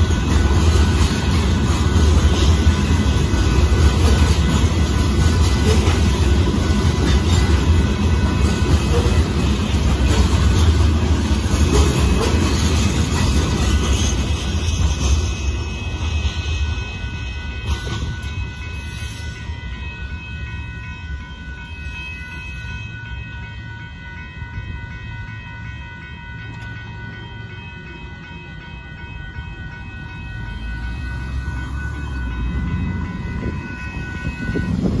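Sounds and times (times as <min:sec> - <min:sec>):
freight train rumble: 0:00.0 - 0:35.0
railroad crossing bell ringing: 0:00.0 - 0:35.0
road traffic: 0:00.0 - 0:35.0.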